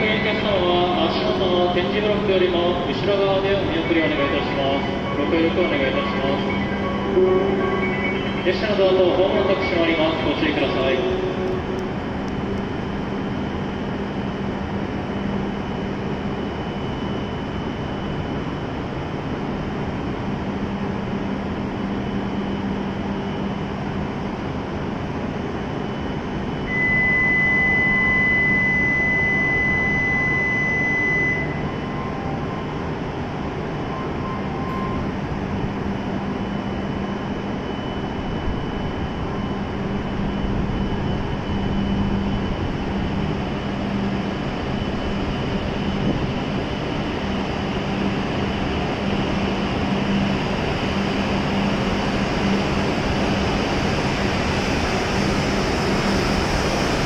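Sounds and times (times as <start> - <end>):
train pulling out: 0.0 - 15.5, 26.5 - 57.0
high-pitched electronic warning tone: 0.0 - 18.4, 25.8 - 57.0
train equipment hum: 0.0 - 57.0.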